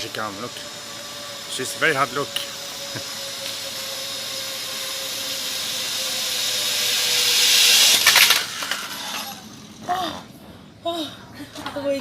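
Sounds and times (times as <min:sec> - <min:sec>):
zipline pulleys whining on cable: 0:00.0 - 0:11.0.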